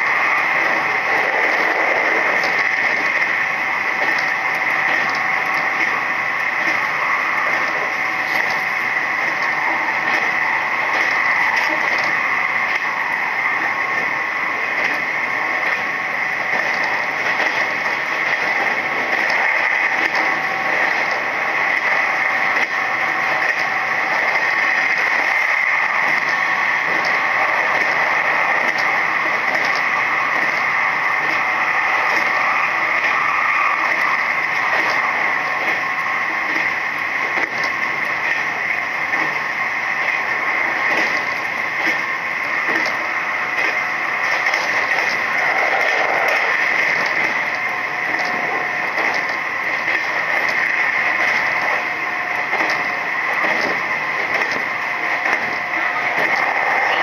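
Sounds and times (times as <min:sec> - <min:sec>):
high-pitched noise: 0:00.0 - 0:57.0
train wheels rumbling on rails: 0:00.0 - 0:57.0.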